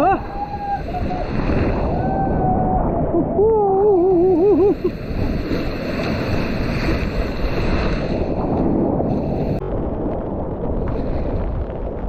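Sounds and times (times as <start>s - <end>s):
rough sea surf: 0.0s - 12.0s
wind buffeting microphone: 0.0s - 12.0s.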